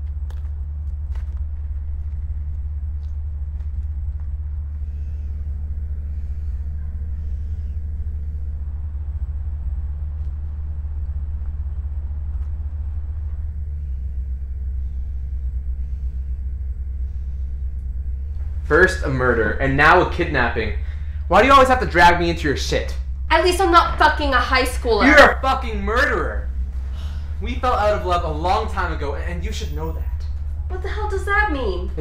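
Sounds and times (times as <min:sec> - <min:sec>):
deep low rumble: 0:00.0 - 0:32.0.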